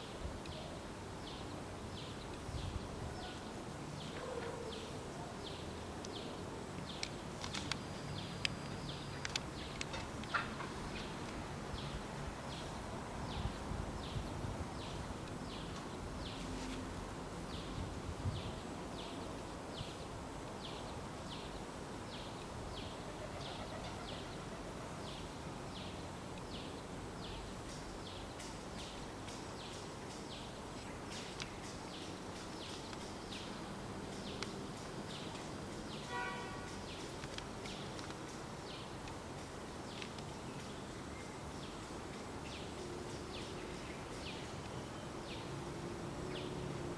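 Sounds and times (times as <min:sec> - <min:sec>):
steady background hiss: 0:00.0 - 0:46.9.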